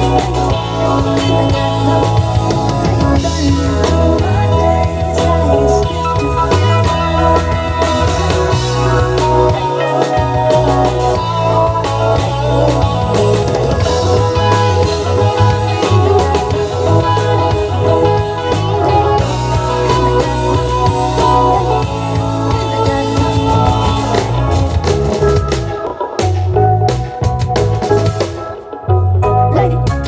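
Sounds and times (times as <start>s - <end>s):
drum kit: 0.0s - 29.2s, 29.8s - 30.0s
guitars: 0.0s - 30.0s
rock band playing live: 0.0s - 30.0s
steady bass line: 0.0s - 30.0s.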